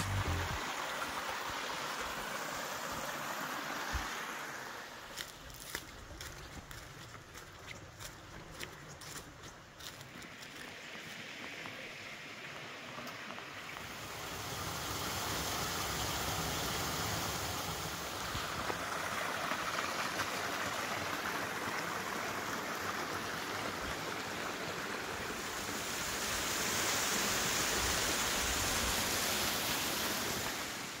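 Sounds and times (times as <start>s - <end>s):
creek water splashing over rocks: 0.0s - 31.0s.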